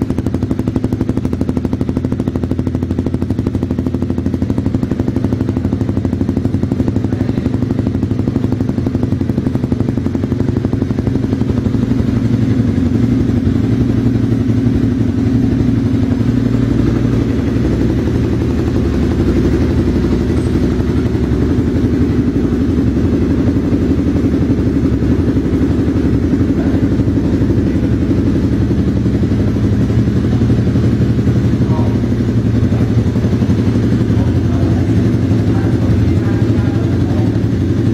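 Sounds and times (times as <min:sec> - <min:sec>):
motorcycle engine idling: 0:00.0 - 0:37.9.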